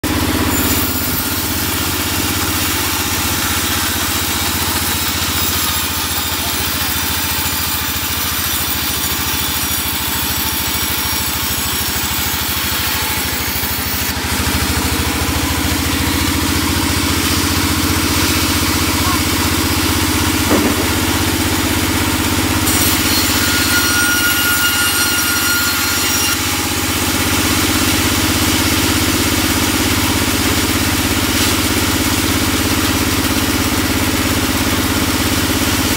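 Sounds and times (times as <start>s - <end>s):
band saw ripping timber: 0.0s - 35.9s.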